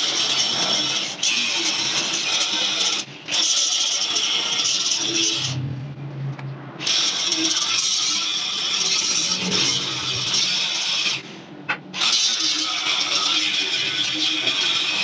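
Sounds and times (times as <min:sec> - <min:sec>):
angle grinder grinding metal: 0:00.0 - 0:05.6, 0:06.8 - 0:11.3, 0:12.0 - 0:15.0.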